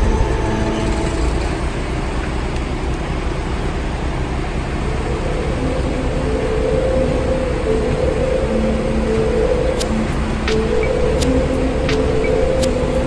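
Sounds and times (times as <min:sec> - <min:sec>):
low rumble of motor vehicles: 0:00.0 - 0:13.0.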